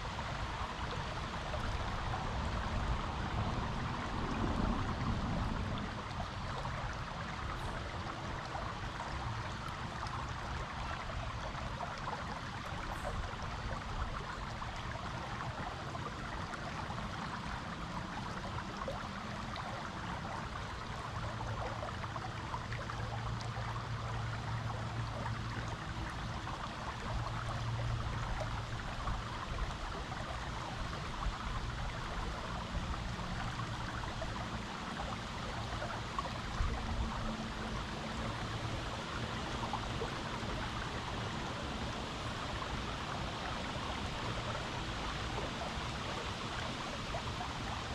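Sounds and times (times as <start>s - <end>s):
creek water flowing over rocks: 0.0s - 47.9s.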